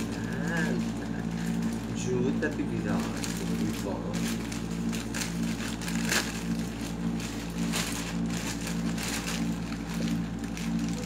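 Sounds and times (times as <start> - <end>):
plastic bag crinkling: 0.0 - 11.0
steady low hum: 0.0 - 11.0.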